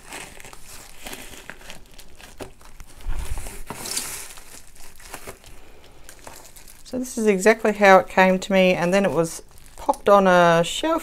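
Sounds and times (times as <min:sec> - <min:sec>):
bubble wrap and tape crinkling: 0:00.0 - 0:11.0.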